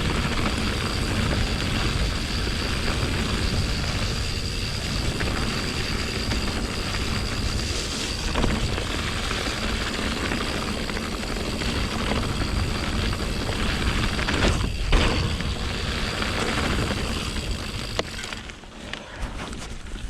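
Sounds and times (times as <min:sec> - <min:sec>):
bike rattling: 0:00.0 - 0:20.0
bike tyres rolling over rock: 0:00.0 - 0:20.0
wind rumbling on microphone: 0:00.0 - 0:20.0.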